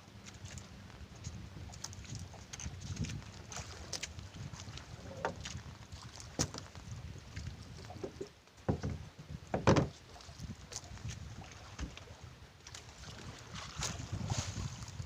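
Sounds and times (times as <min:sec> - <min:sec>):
water washing against hull: 0:00.0 - 0:15.0.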